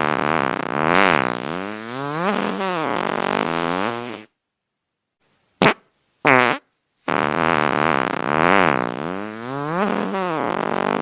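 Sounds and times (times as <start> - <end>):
farts: 0.0 - 4.4, 5.6 - 11.0.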